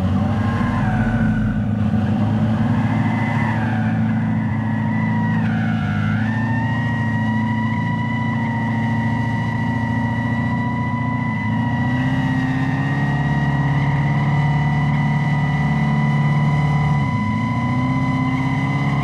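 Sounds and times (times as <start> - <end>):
engine-like exhaust drone: 0.0 - 19.0
tire squeal: 0.0 - 19.0.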